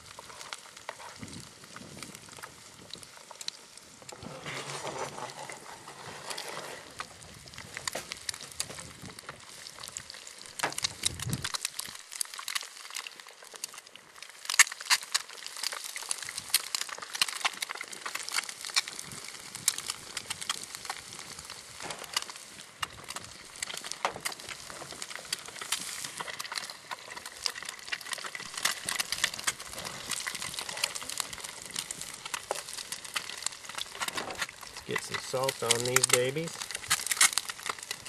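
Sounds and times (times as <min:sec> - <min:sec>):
eggs sizzling in grease: 0:00.0 - 0:38.0
grease popping and spattering: 0:00.0 - 0:38.0.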